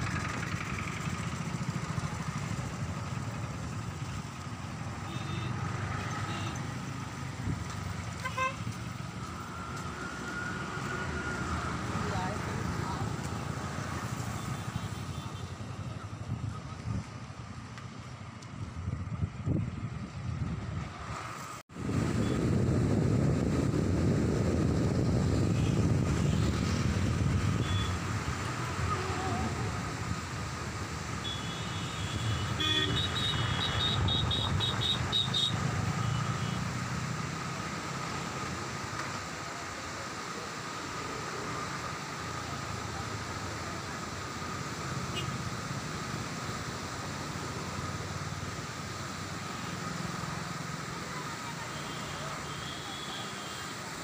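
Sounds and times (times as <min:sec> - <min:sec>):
vehicle rumble with hiss: 0:00.0 - 0:54.0.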